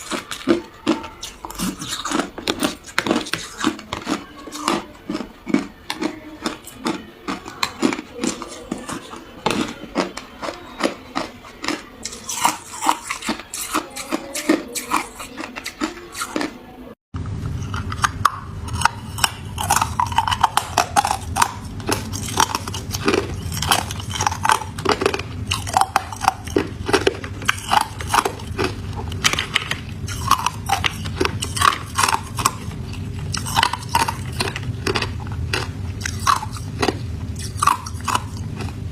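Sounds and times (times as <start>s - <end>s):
ice being chewed: 0.0s - 16.6s, 17.4s - 38.9s
low steady hum: 0.0s - 38.9s.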